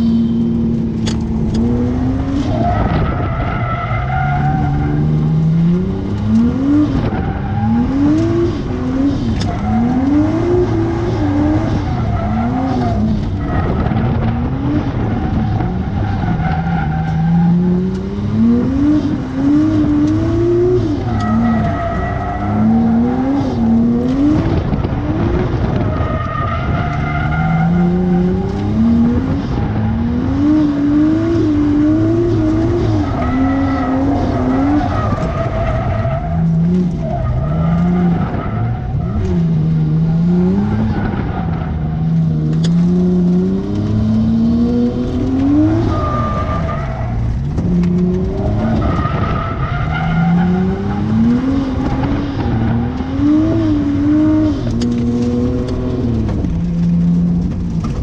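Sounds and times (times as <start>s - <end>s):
car engine revving under driving: 0.0s - 58.0s.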